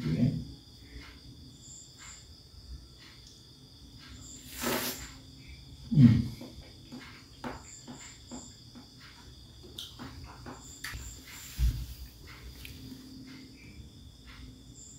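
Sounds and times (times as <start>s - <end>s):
crickets chirping: 0.0s - 14.9s.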